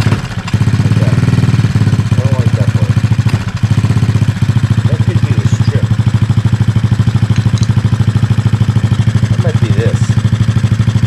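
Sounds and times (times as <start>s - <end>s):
pit bike engine idling: 0.0s - 11.0s.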